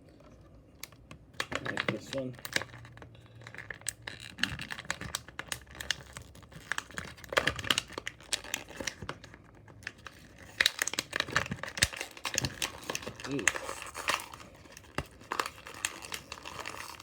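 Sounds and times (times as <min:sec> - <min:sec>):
plastic and cardboard packaging tearing: 0:01.4 - 0:17.0.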